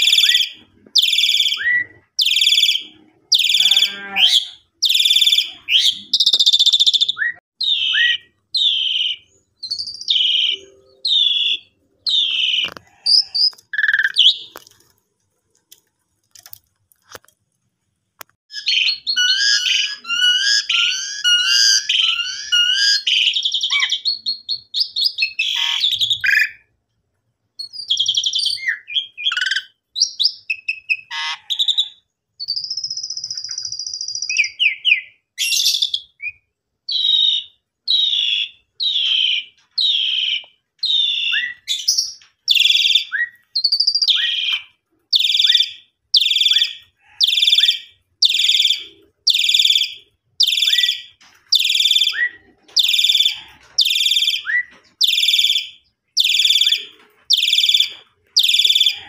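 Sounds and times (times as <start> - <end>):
starling singing: 0.0 - 14.6, 18.5 - 26.6, 27.6 - 59.0.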